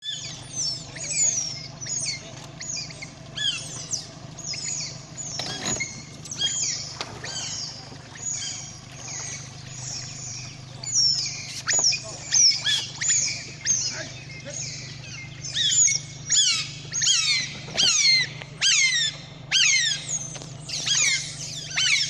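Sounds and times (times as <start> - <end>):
otters chirping: 0.0 - 22.0
steady low hum: 0.0 - 22.0.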